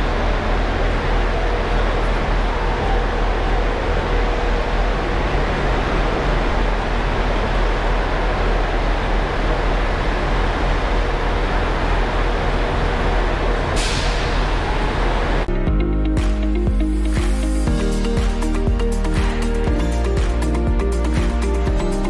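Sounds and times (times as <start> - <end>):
low rumble of trains: 0.0 - 22.0.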